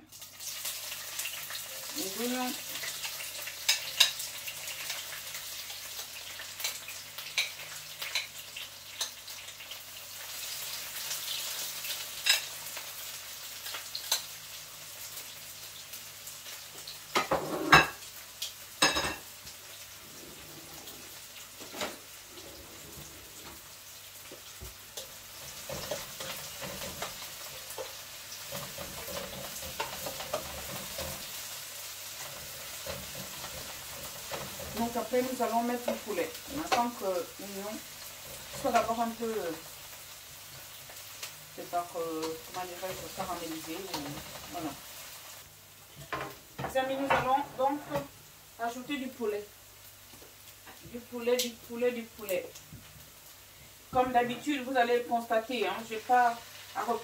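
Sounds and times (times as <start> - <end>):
onions sizzling in a frying pan: 0.0 - 57.0.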